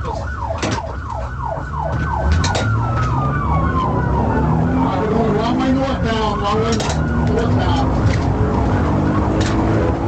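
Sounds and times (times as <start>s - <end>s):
police siren yelping: 0.0s - 10.0s
vehicle engine and road rumble: 0.0s - 10.0s.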